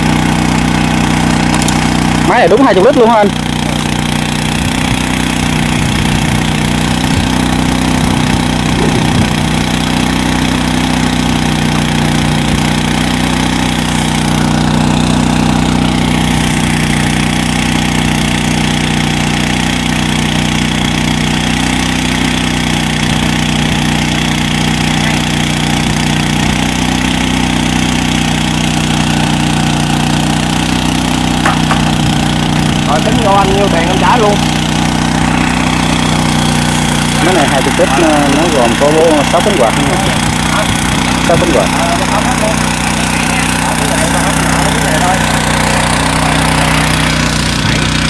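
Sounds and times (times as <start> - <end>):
small engine running: 0.0 - 48.0.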